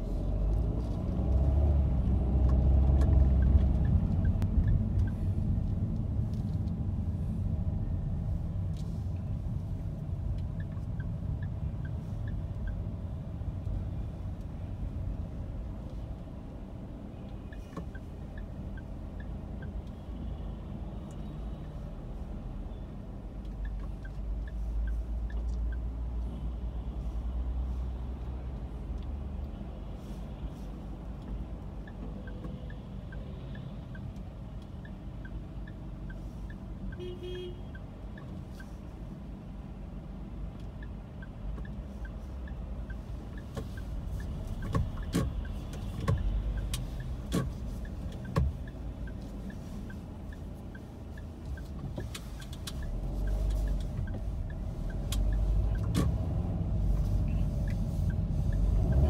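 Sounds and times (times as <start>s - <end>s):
city bus close by: 0.0s - 59.0s
road traffic rumble: 0.0s - 59.0s.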